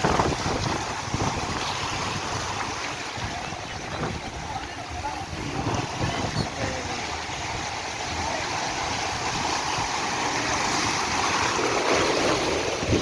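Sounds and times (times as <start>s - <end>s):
sea water rushing: 0.0s - 13.0s
wind buffeting microphone: 0.0s - 13.0s.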